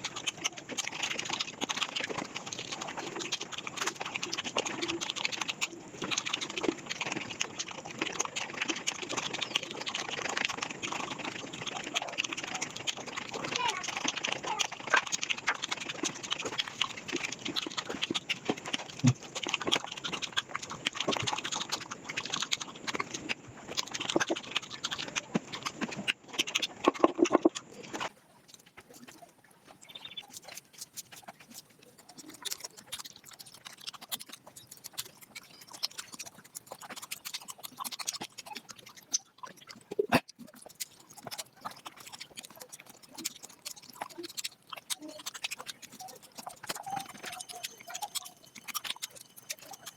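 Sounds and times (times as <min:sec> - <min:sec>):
fast chewing and mouth clicks: 0:00.0 - 0:49.9.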